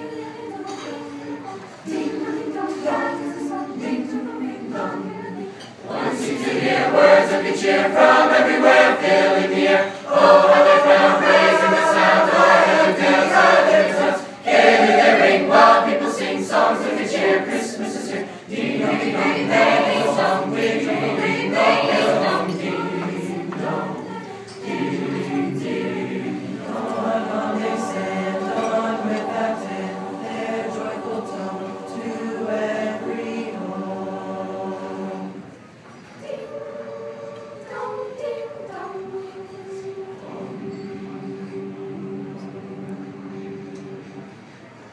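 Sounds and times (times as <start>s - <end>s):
choir singing a cappella: 0.0s - 44.9s.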